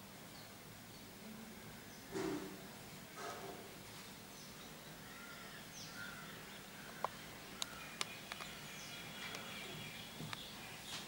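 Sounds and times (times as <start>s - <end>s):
faint distant bird calls: 0.0s - 11.0s.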